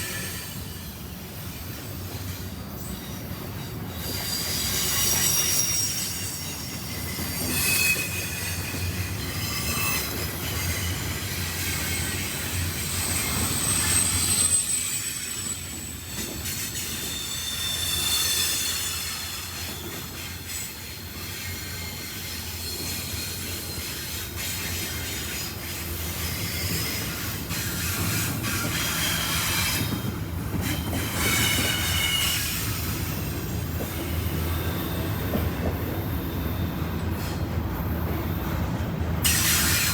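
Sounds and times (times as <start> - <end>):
freight train cars rolling: 0.0 - 39.9
steel wheels squealing: 0.0 - 39.9.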